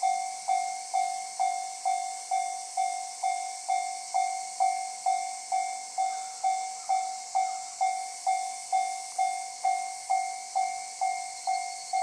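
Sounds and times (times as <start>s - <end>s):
level crossing warning bell: 0.0s - 12.0s
steady high hiss: 0.0s - 12.0s.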